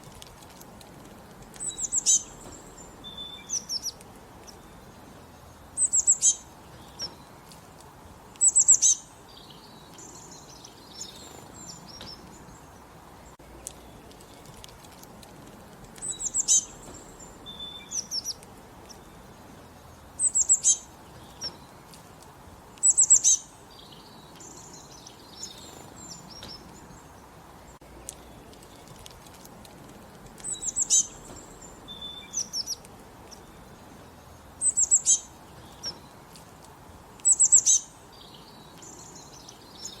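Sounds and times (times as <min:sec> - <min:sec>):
small birds chirping and trilling: 0:00.0 - 0:40.0.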